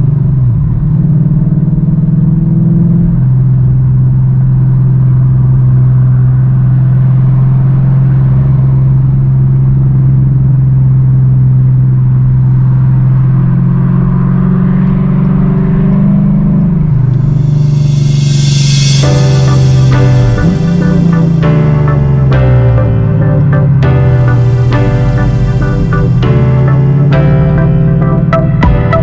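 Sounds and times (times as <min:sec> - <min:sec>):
engine and exhaust droning: 0:00.0 - 0:29.0.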